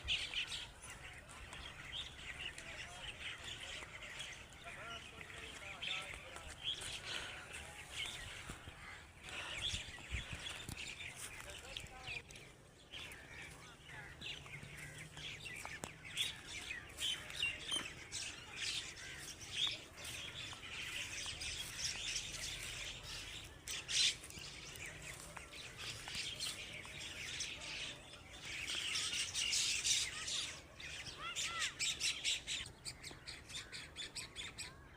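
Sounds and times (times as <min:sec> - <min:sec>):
myna birds calling: 0:00.0 - 0:34.9.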